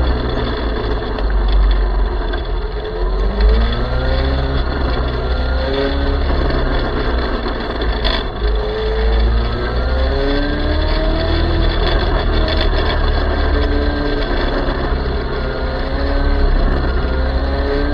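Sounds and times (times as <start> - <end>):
heavy low rumble: 0.0 - 17.9.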